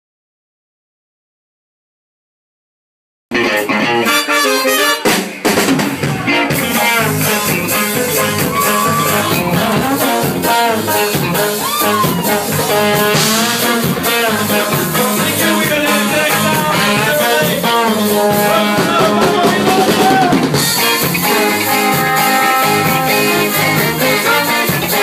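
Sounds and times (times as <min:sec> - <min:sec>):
live band playing upbeat song: 0:03.3 - 0:25.0.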